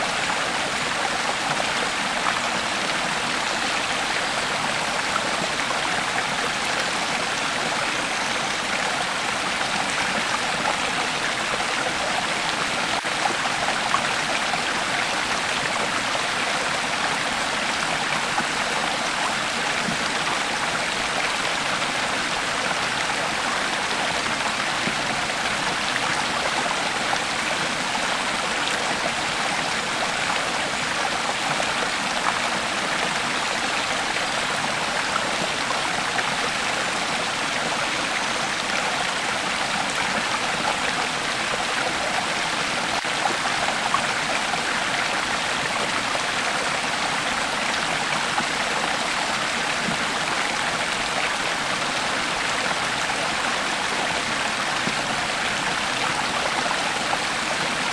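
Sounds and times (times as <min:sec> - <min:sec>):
creek water flowing over rocks: 0:00.0 - 0:57.9.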